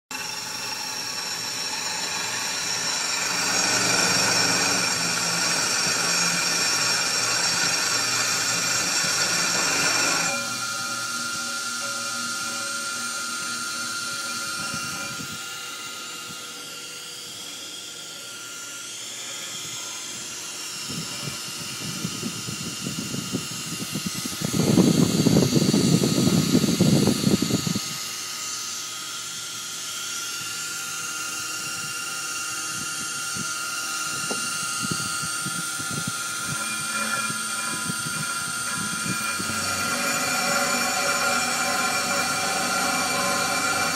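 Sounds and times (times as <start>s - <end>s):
milling machine motor whine: 0.1s - 43.9s.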